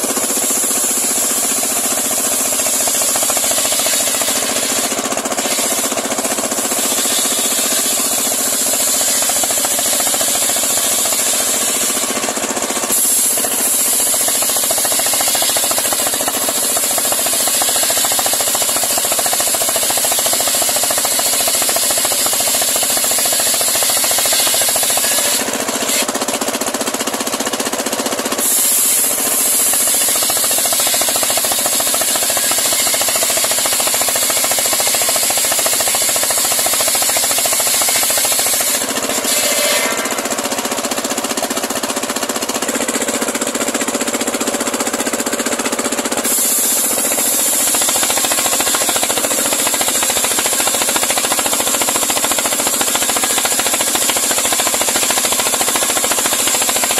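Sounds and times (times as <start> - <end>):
circular sawmill sawing log: 0.0 - 56.9.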